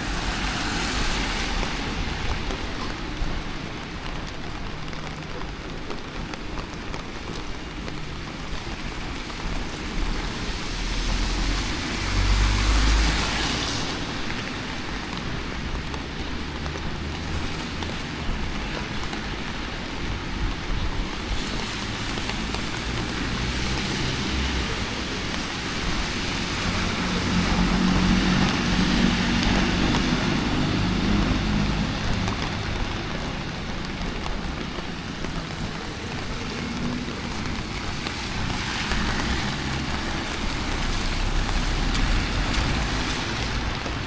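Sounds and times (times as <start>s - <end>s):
passing traffic: 0.0s - 44.0s
rain hiss on wet street: 0.0s - 44.0s.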